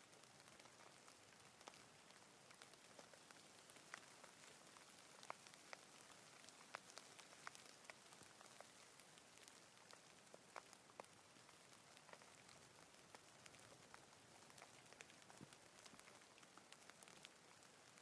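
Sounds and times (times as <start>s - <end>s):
faint steady rain: 0.0s - 18.0s
raindrops ticking: 0.0s - 18.0s.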